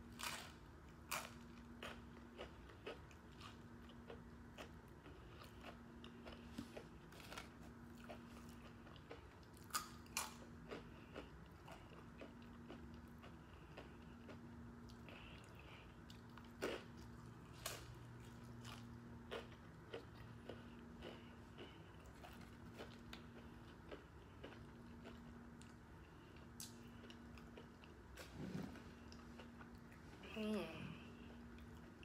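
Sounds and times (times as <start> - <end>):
chewing and crunching chips: 0.0 - 32.0.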